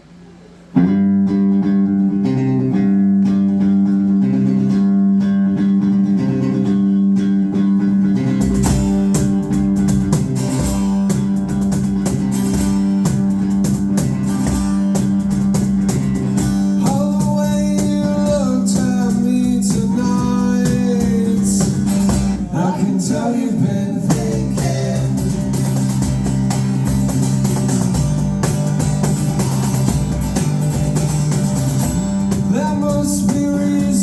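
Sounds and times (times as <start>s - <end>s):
steady guitar figure: 0.0s - 34.0s
live rock band playing: 0.8s - 34.0s.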